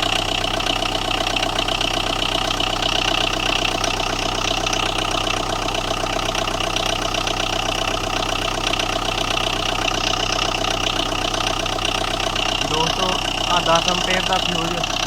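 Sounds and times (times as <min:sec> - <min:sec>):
diesel engine idling with knock: 0:00.0 - 0:15.0.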